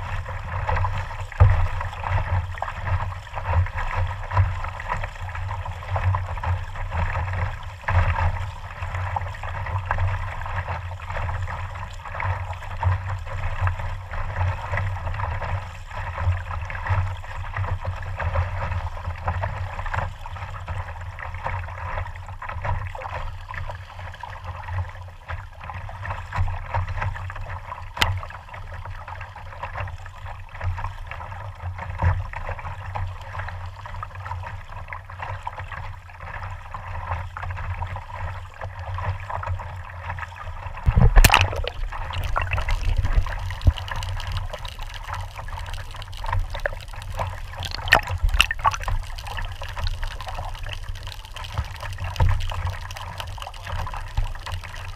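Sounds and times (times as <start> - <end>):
water lapping and gurgling: 0.0 - 54.9
water splashes: 0.0 - 54.9.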